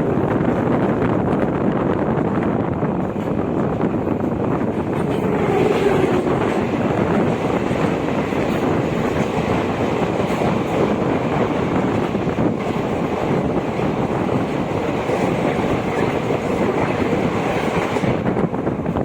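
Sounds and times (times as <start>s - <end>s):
train coaches rumbling and rattling: 0.0s - 19.0s.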